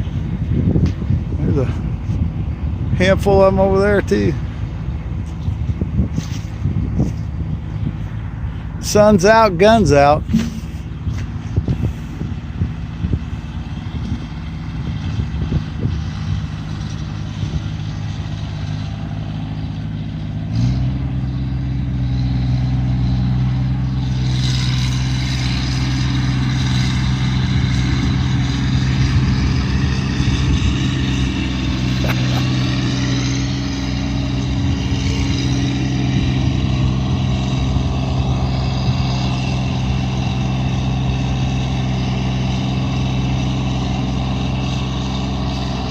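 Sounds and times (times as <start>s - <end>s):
car engine revving: 3.6s - 45.9s.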